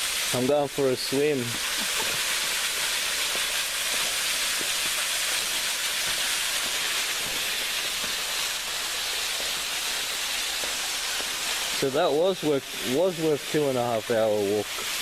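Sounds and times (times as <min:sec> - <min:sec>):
waterfall hissing: 0:00.0 - 0:15.0.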